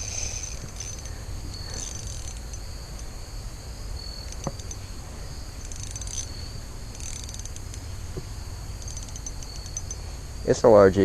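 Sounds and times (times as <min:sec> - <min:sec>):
handling noise: 0:00.0 - 0:10.2
insects trilling: 0:00.0 - 0:11.0
low wind rumble: 0:00.0 - 0:11.0.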